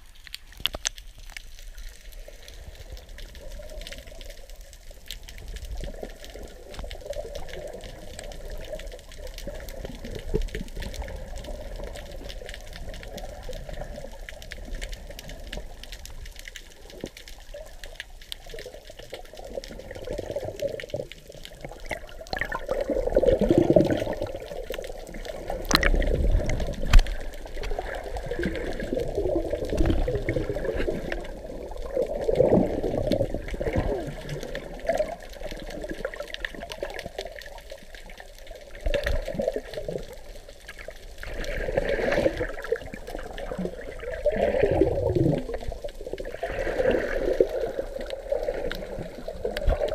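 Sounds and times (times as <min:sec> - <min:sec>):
underwater rushing and sloshing: 0:00.0 - 0:49.9.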